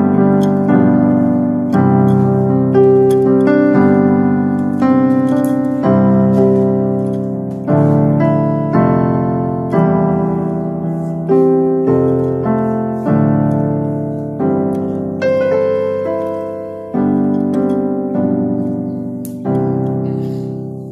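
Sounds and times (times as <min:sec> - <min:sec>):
electronic keyboard piano chords: 0:00.0 - 0:20.9.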